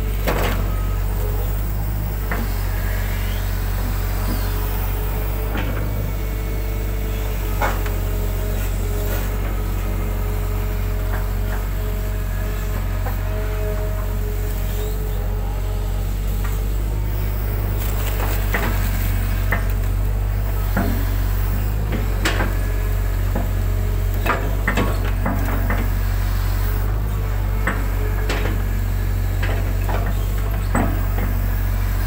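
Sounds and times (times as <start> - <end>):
excavator diesel engine humming: 0.0 - 32.0.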